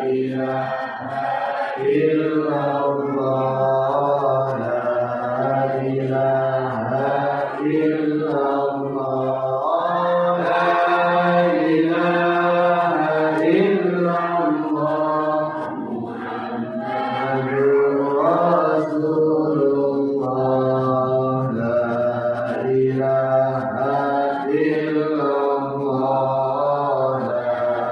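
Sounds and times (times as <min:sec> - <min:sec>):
person chanting melodically: 0:00.0 - 0:27.9.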